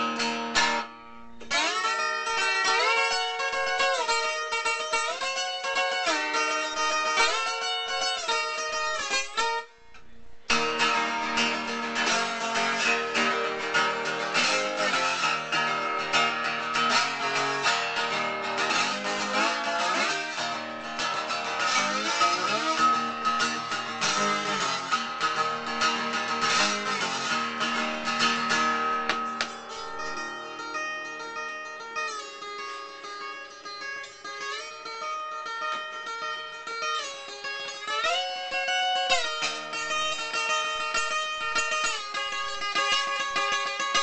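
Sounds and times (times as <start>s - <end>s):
blues guitar playing: 0.0s - 9.8s, 10.4s - 44.0s.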